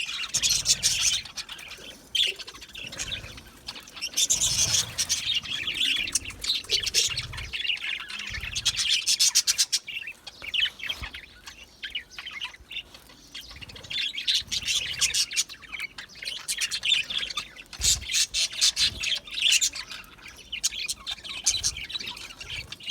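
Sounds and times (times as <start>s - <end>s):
budgerigars chattering: 0.0s - 22.9s.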